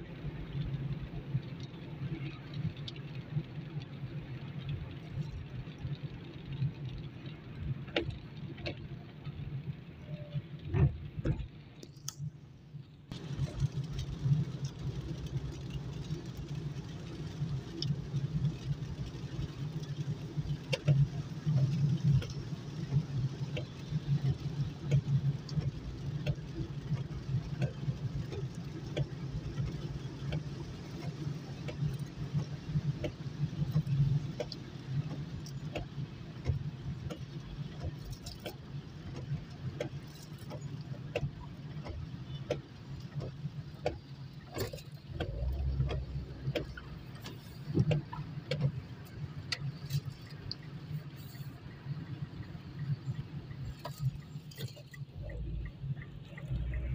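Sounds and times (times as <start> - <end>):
rain ticking on glass: 0.0 - 12.4, 13.1 - 56.9
engine and tyres on wet road: 0.0 - 56.9.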